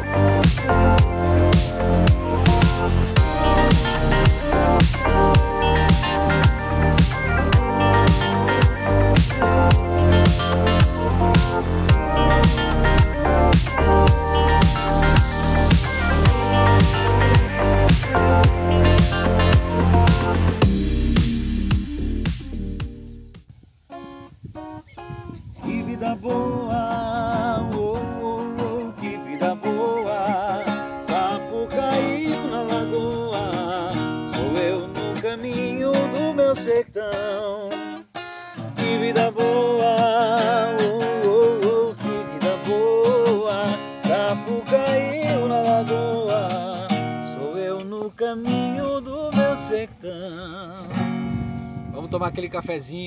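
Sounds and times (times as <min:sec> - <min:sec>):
man singing: 0:00.0 - 0:20.8, 0:25.6 - 0:38.0, 0:38.6 - 0:51.2
acoustic guitar: 0:00.0 - 0:53.0.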